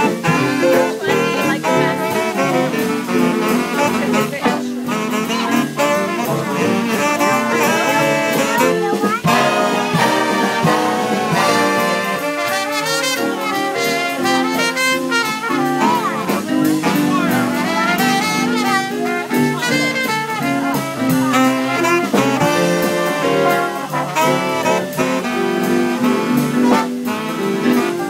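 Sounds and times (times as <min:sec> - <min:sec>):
big band playing swing: 0:00.0 - 0:28.0.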